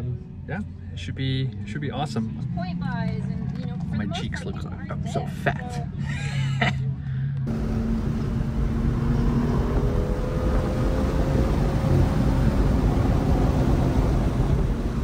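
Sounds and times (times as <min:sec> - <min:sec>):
race car engine and tyres: 0:00.0 - 0:15.0.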